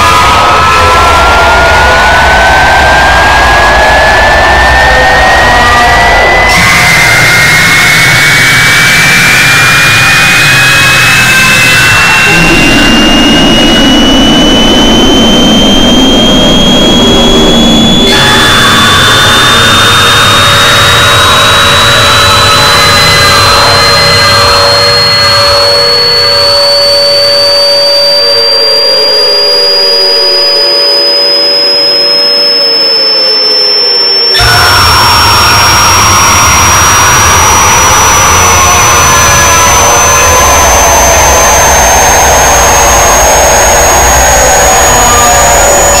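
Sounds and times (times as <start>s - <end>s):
piercing high tone rising: 0.0s - 46.0s.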